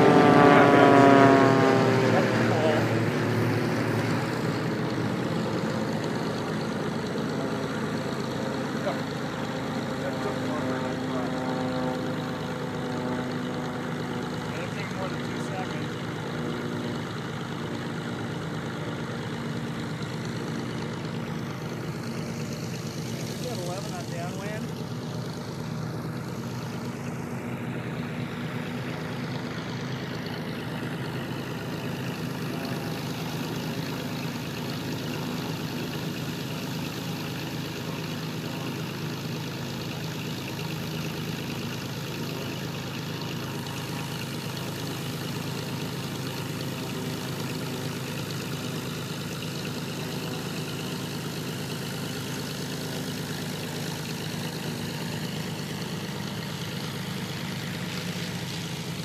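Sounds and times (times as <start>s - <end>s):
propeller aircraft droning: 0.0s - 59.0s.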